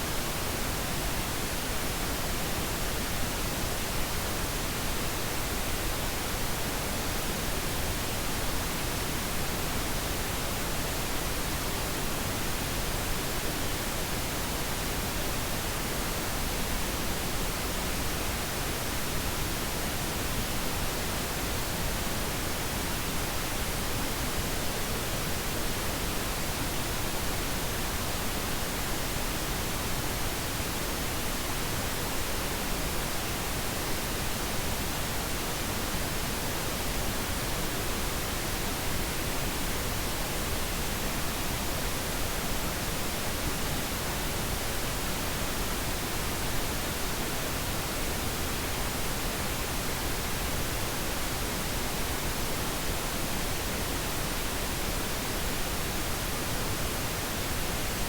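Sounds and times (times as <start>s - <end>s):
steady pink noise: 0.0s - 58.0s.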